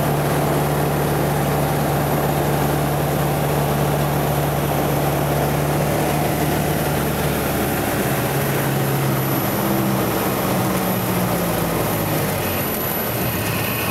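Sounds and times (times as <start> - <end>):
propeller plane engine droning: 0.0 - 13.9.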